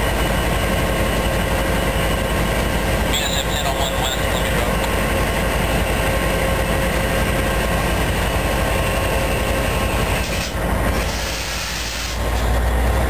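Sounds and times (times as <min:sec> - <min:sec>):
train rumbling past on tracks: 0:00.0 - 0:13.0.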